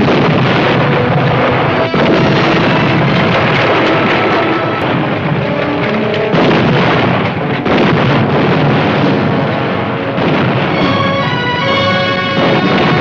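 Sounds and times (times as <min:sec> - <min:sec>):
large explosion: 0:00.0 - 0:13.0
orchestral music: 0:00.0 - 0:13.0.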